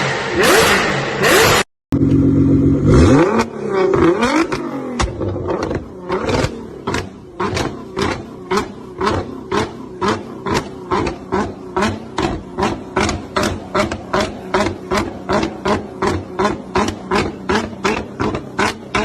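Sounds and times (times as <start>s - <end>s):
sports car engine revving: 0.0s - 19.0s.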